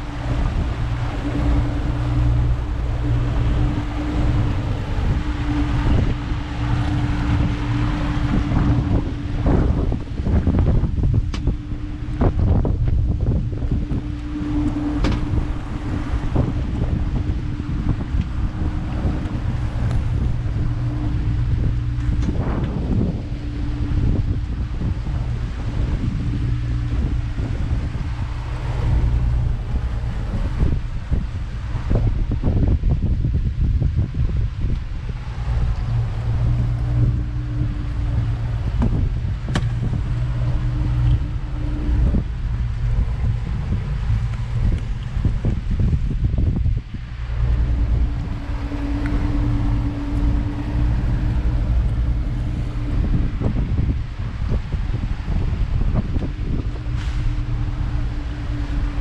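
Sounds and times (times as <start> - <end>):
outboard engines humming: 0.0 - 59.0
wind noise on microphone: 0.0 - 59.0.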